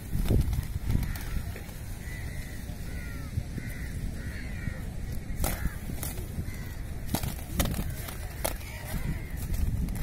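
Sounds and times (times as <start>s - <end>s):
crows cawing: 0.9s - 9.6s.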